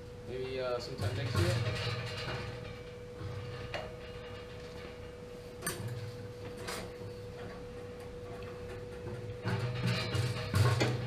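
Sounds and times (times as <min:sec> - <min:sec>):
steady hum with thin whine: 0:00.0 - 0:11.0.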